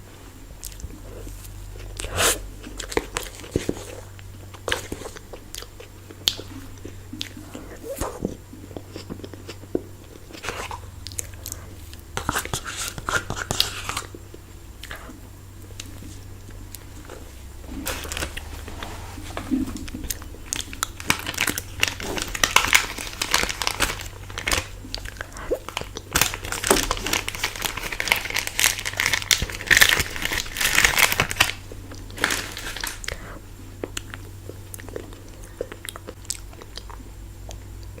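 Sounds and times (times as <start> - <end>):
ice cream wrapper crinkling: 0.6 - 14.3, 14.9 - 36.8
crunching bites and chewing: 0.6 - 38.0.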